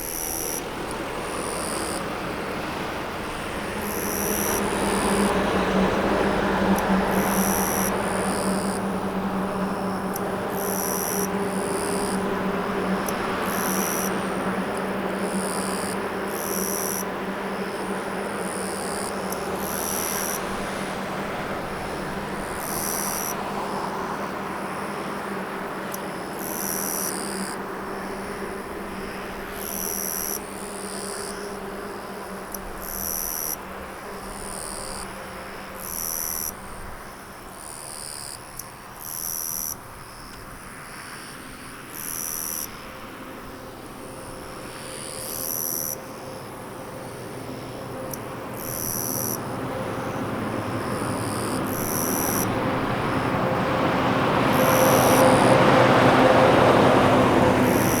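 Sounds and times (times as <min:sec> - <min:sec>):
road vehicle approaching: 0:00.0 - 0:58.0.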